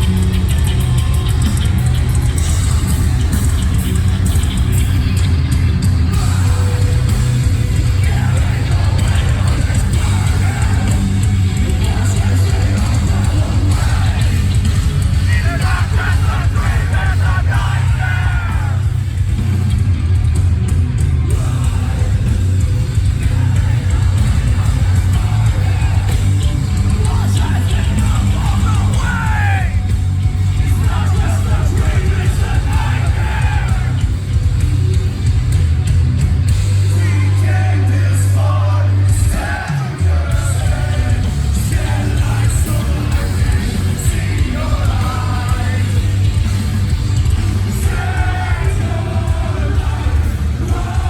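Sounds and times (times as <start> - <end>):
singing and yelled vocals: 0.0 - 19.6, 21.2 - 35.0, 36.4 - 51.0
distorted guitars and bass: 0.0 - 51.0
drums and cymbal crashes: 0.0 - 51.0
metalcore band playing live: 0.0 - 51.0.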